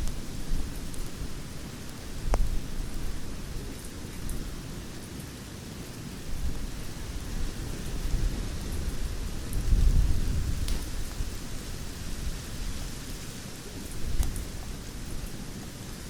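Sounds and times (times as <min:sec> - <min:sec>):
campfire flames rumbling: 0:00.0 - 0:16.0
fire crackles and pops: 0:00.0 - 0:16.0.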